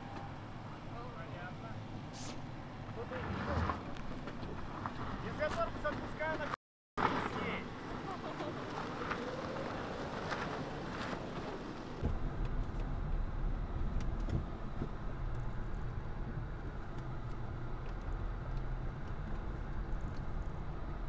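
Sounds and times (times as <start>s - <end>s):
vehicle rumble on dirt track: 0.0s - 21.0s
tyres rolling on dirt: 2.8s - 21.0s.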